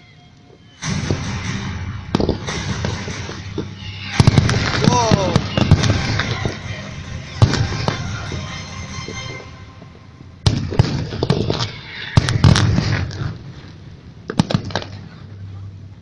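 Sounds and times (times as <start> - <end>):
fireworks bangs and cracks: 0.8 - 15.4
fireworks crackling: 0.8 - 15.5.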